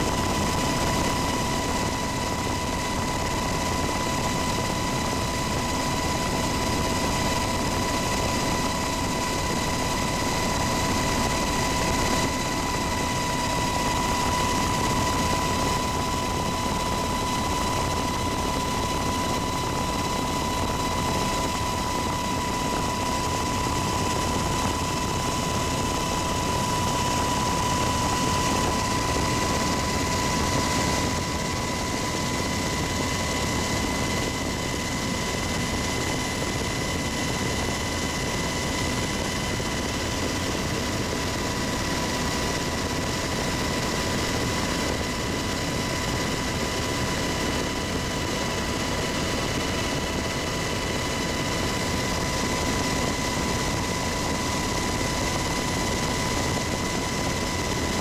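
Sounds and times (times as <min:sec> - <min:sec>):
helicopter engines and rotor: 0:00.0 - 0:58.0.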